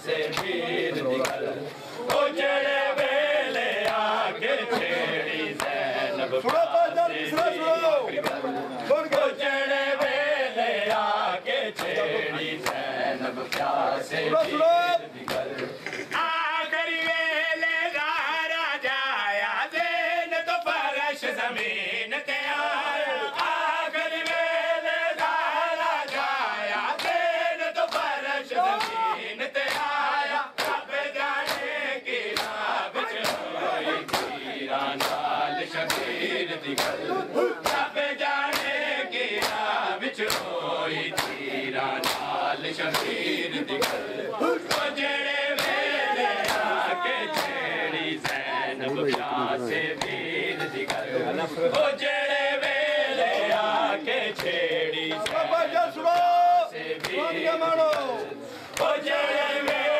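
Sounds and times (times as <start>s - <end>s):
crowd of men chanting: 0.0s - 59.9s.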